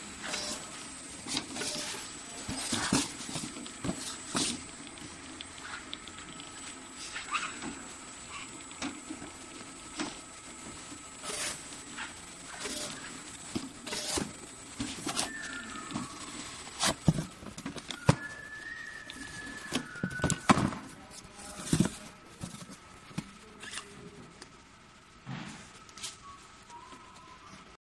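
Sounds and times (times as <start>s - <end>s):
faint high whine: 0.0s - 27.8s.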